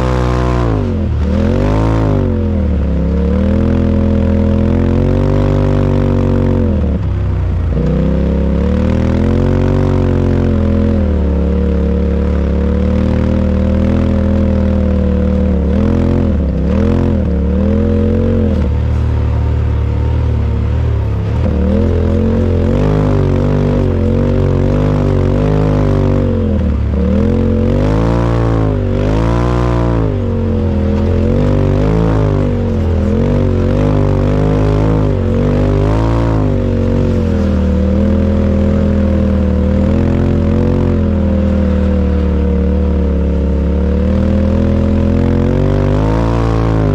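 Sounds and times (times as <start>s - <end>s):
utility vehicle engine revving: 0.0s - 46.9s.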